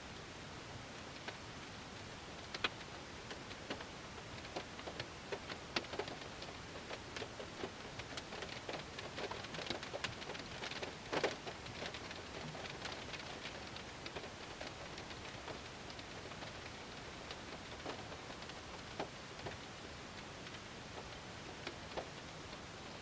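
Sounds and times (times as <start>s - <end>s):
steady hiss of rainfall: 0.0s - 23.0s
raindrops tapping on a car: 2.4s - 23.0s.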